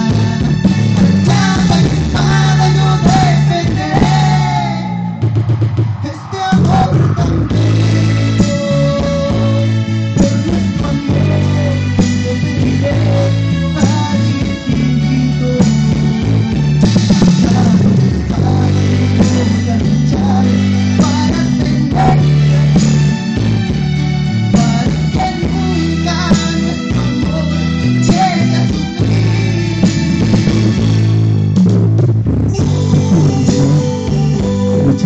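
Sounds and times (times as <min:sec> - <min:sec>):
man singing into microphone: 0:00.0 - 0:05.3, 0:06.0 - 0:16.4, 0:17.3 - 0:23.4, 0:24.5 - 0:30.5, 0:32.5 - 0:35.0
music with bass line: 0:00.0 - 0:35.0.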